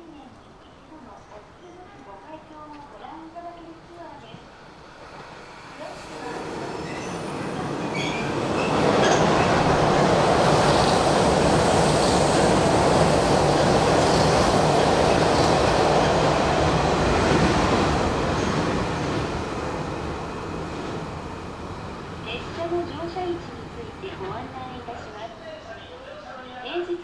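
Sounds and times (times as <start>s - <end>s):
electric train running past: 4.4s - 26.4s.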